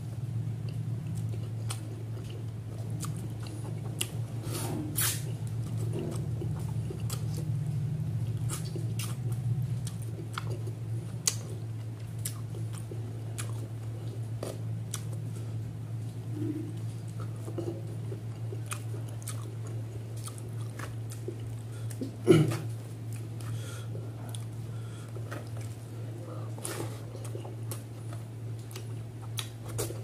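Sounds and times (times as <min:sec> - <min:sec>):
steady low hum: 0:00.0 - 0:30.0
wet chewing and mouth smacks: 0:00.6 - 0:04.2, 0:05.0 - 0:07.6, 0:08.2 - 0:15.2, 0:16.0 - 0:22.2, 0:23.0 - 0:23.6, 0:24.2 - 0:25.9, 0:26.5 - 0:30.0.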